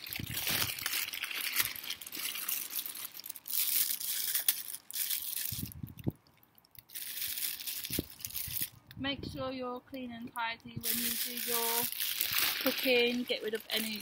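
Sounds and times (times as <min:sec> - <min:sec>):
plastic bag crinkling: 0:00.0 - 0:08.9, 0:10.8 - 0:14.0.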